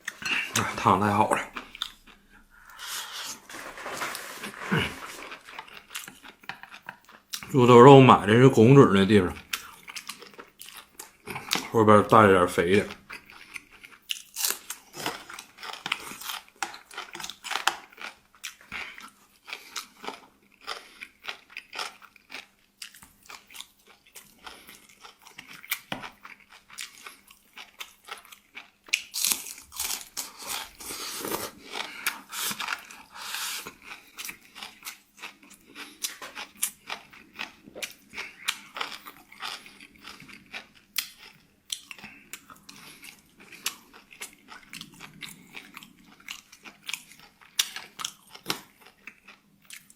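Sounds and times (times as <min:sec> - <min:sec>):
person chewing crunchy food: 0:00.0 - 0:07.6, 0:09.3 - 0:11.7, 0:12.9 - 0:49.9.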